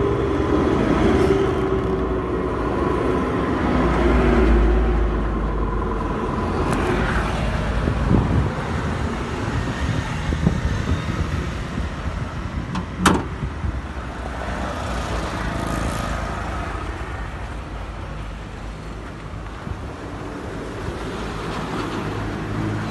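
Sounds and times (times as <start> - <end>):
rumble of passing vehicles: 0.0 - 22.9.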